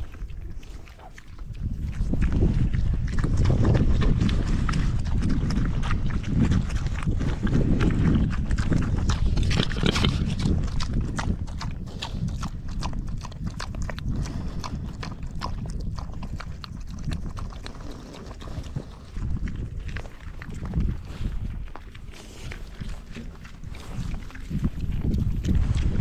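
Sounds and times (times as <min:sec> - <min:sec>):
pigs crunching grain feed: 0:00.0 - 0:26.0.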